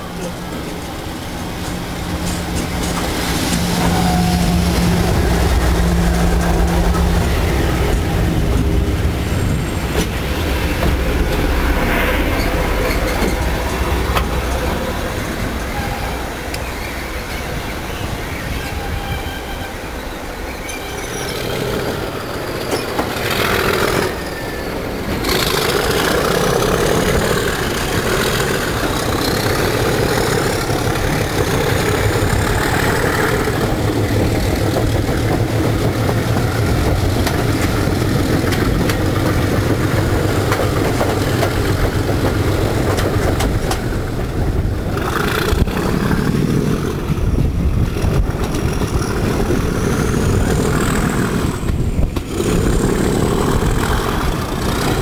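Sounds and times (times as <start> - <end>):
diesel locomotive engines droning: 0.0 - 55.0
train wheels on rails: 0.0 - 55.0.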